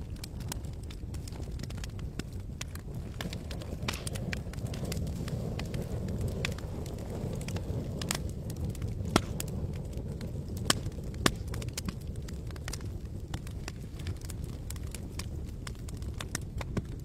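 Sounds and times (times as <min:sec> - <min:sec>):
campfire crackling and popping: 0:00.0 - 0:17.0
steady low rumble: 0:00.0 - 0:17.0.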